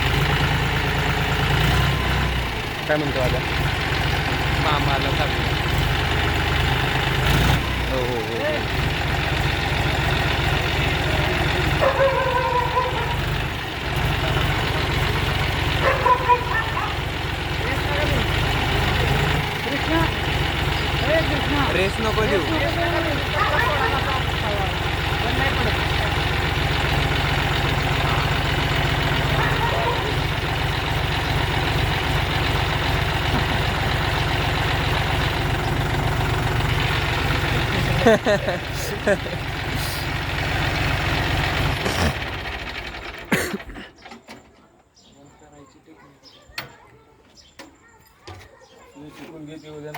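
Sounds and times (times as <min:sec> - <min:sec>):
tractor diesel engine idling: 0:00.0 - 0:45.6.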